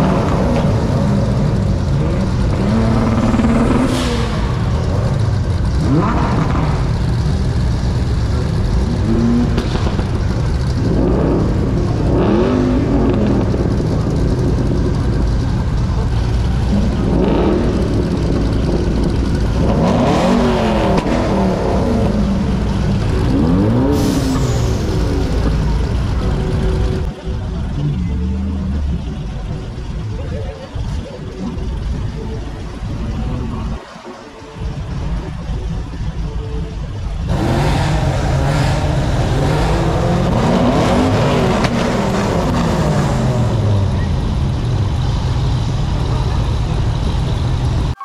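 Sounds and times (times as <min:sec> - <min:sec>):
car engines revving: 0:00.0 - 0:48.0
low engine rumble: 0:00.0 - 0:48.0.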